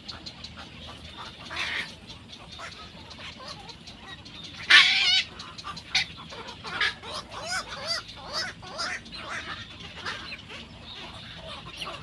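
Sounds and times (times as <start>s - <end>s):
birds calling: 0.0s - 12.0s
rapid rattling bird call: 0.0s - 12.0s.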